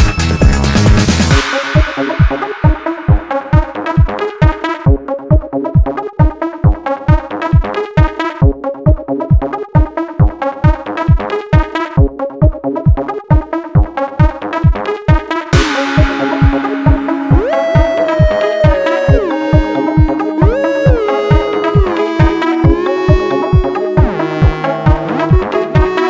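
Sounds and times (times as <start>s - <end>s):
electronic dance music: 0.0s - 26.0s.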